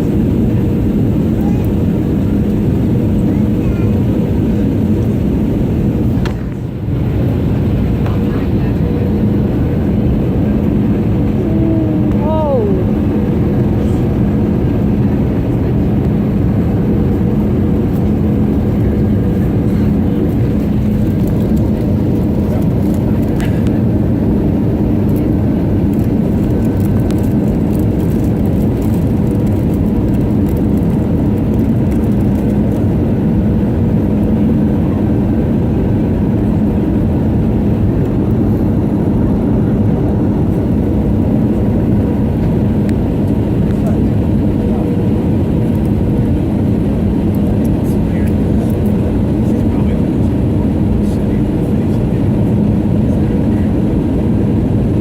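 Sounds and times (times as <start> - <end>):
rushing airflow: 0.0 - 47.5
low hum: 0.0 - 50.3
aircraft engines droning: 0.0 - 55.0.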